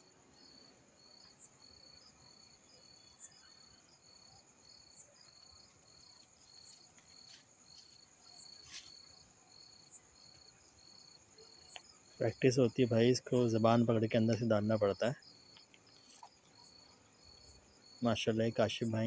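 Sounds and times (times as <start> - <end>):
cricket pulsed chirping: 0.0 - 19.0
steady high cricket trill: 0.0 - 19.0.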